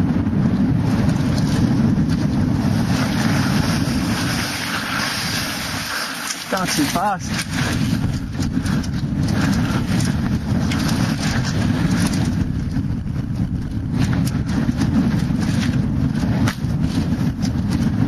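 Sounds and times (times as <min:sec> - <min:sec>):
bike rattling on dirt trail: 0:00.0 - 0:18.0
wind buffeting microphone: 0:00.0 - 0:18.0.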